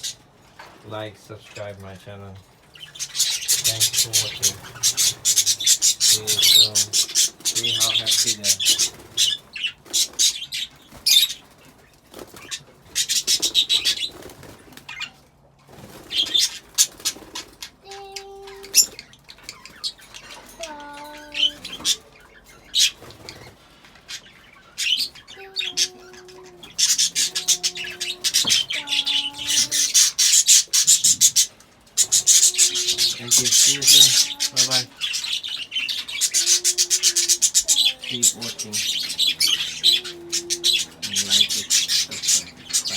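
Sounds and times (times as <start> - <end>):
budgies chattering and warbling: 0.0 - 42.9.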